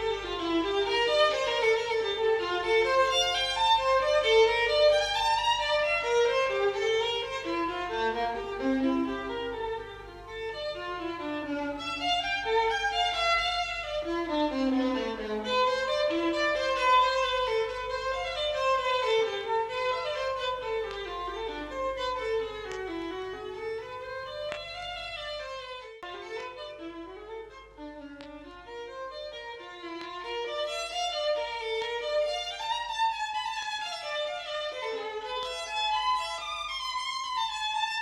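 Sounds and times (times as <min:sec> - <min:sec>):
violin melody: 0:00.0 - 0:38.0.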